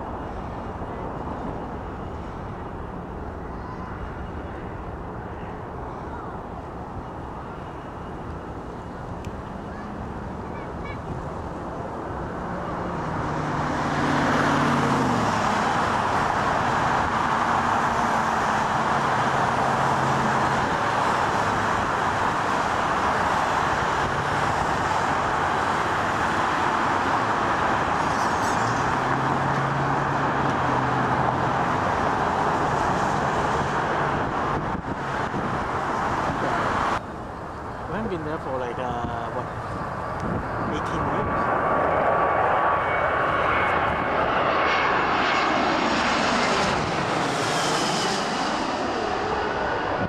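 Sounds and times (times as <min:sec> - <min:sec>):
jet engines at takeoff: 0:00.0 - 0:50.0.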